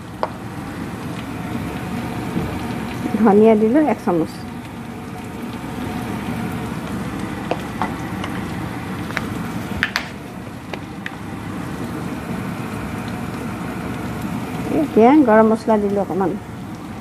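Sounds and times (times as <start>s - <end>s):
oil crackles and pops: 0.0s - 17.0s
onion frying in oil sizzle: 0.0s - 17.0s.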